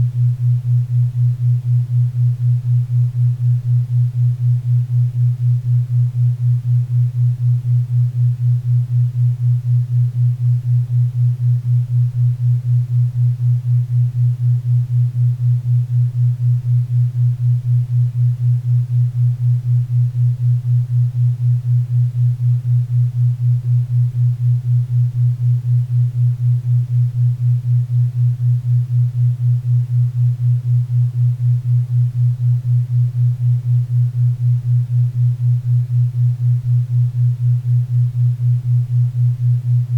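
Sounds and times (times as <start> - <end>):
pulsing low hum: 0.0 - 39.9.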